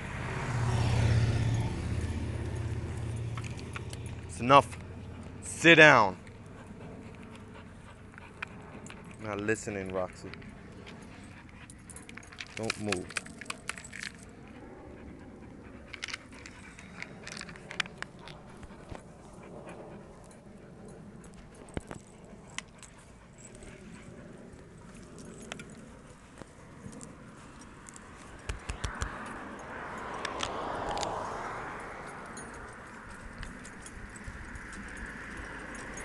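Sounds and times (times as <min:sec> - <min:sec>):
leash clicks and clinks: 0:00.6 - 0:36.0
dogs panting: 0:01.2 - 0:36.0.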